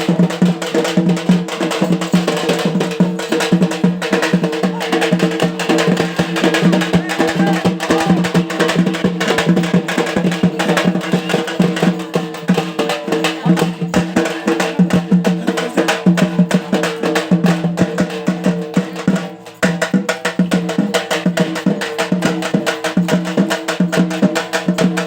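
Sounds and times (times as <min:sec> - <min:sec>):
fast drum-led music: 0:00.0 - 0:25.0.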